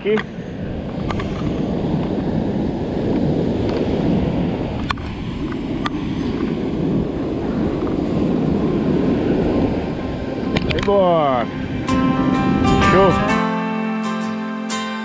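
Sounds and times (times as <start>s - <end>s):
wind rumble on microphone: 0.0s - 13.4s
beach surf: 0.0s - 15.0s.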